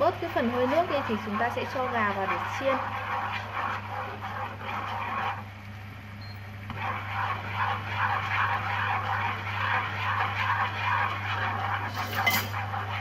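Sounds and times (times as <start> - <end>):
sauce boiling in a frying pan: 0.0 - 13.0
steady low hum: 0.0 - 13.0.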